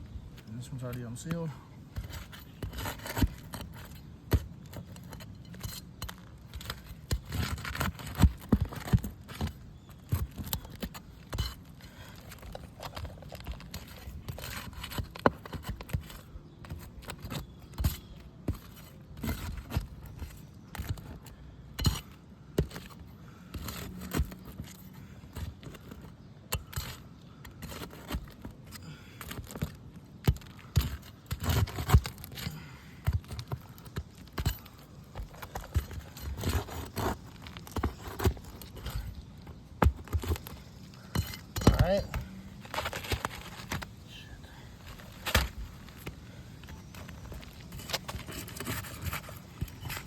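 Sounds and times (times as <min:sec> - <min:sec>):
tools scraping roof shingles: 0:00.4 - 0:44.0, 0:44.8 - 0:50.0.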